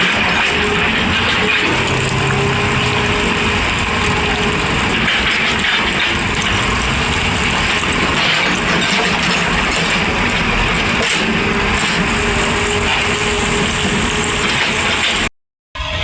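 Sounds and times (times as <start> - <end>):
excavator engine and hydraulics: 0.0 - 16.0.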